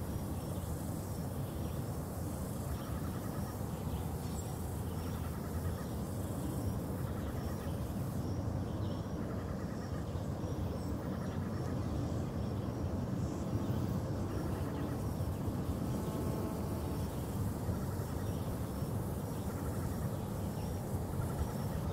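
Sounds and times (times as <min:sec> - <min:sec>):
low outdoor background rumble: 0:00.3 - 0:21.9.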